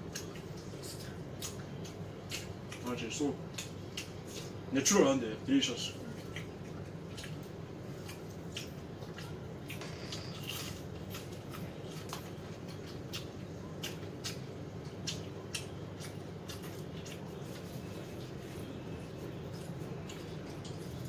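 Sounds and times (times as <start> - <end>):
crunchy chewing: 0.0 - 4.7, 5.9 - 21.0
steady low hum: 0.0 - 21.0.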